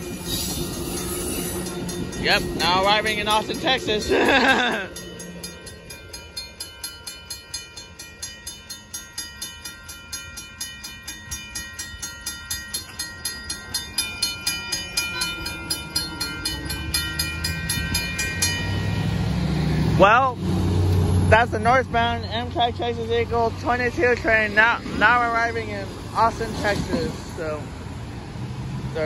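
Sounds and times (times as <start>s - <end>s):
crossing warning bell ringing: 0.0s - 28.2s
low road traffic rumble: 0.0s - 29.0s.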